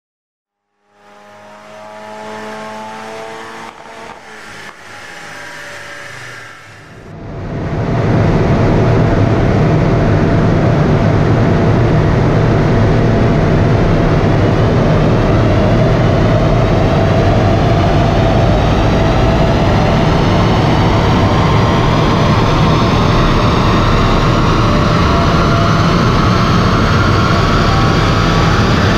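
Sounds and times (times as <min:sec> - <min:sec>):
faint whine rising in pitch: 0:00.6 - 0:28.9
diesel engine running hard: 0:01.0 - 0:28.9.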